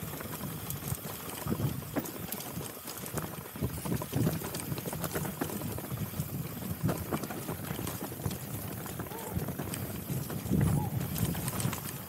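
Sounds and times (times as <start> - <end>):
bike clicks and rattles: 0.0 - 12.0
bike tyre rumble on dirt: 0.0 - 12.0.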